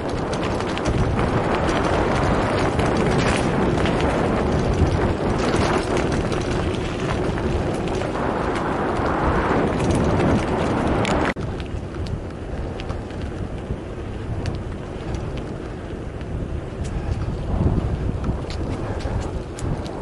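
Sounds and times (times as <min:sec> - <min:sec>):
tyres rolling on gravel: 0:00.0 - 0:20.0
wind buffeting microphone: 0:00.0 - 0:20.0.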